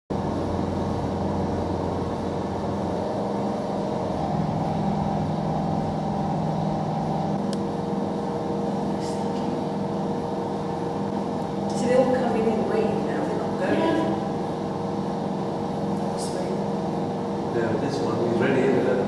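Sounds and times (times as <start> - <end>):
airliner engines idling: 0.1 - 18.0.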